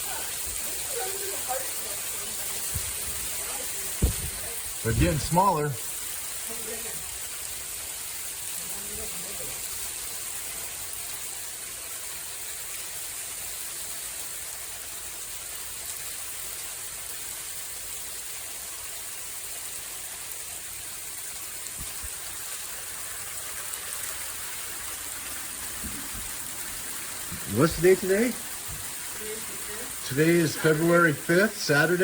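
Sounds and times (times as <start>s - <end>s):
hailstones pattering: 0.0s - 12.1s, 13.4s - 32.0s.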